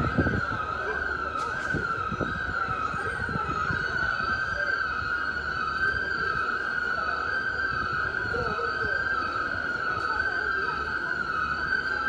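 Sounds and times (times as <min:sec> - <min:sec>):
wavering siren: 0:00.0 - 0:12.0.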